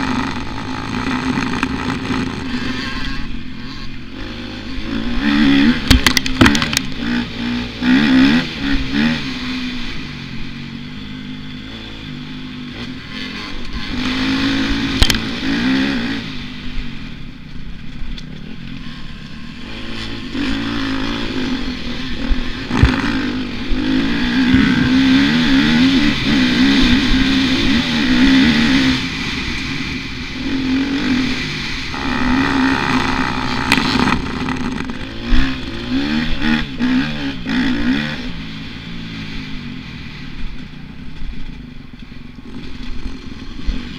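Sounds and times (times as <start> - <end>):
motocross bike engine revving: 0.0 - 41.7, 42.3 - 43.9.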